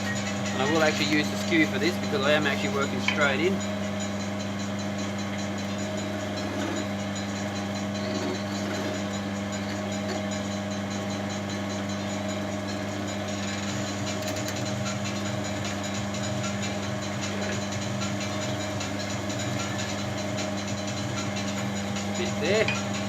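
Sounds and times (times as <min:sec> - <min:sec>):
chisel cutting spinning wood: 0:00.0 - 0:23.0
lathe motor hum: 0:00.0 - 0:23.0.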